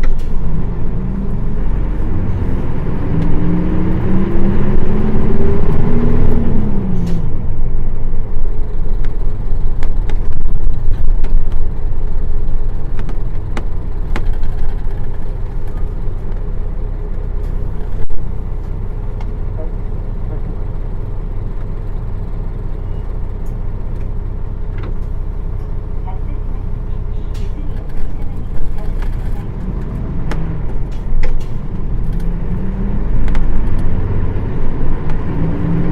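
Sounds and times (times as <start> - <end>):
diesel bus engine: 0.0 - 35.9.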